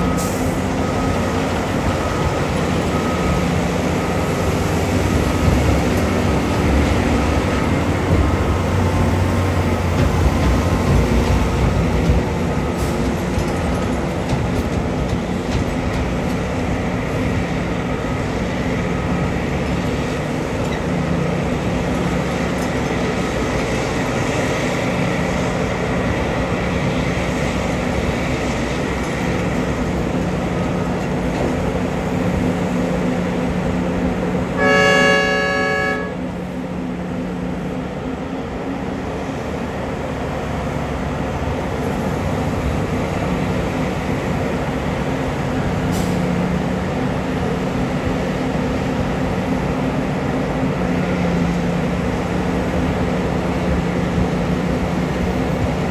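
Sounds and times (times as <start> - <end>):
heavy mining machinery running: 0.0 - 55.9.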